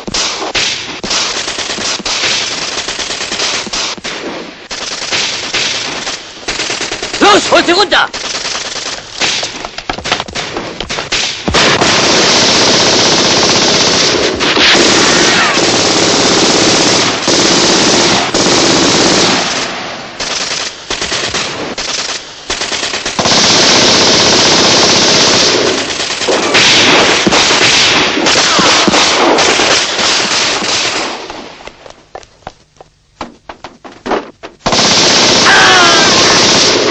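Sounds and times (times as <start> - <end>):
automatic gunfire bursts: 0.0 - 31.6, 34.1 - 36.9.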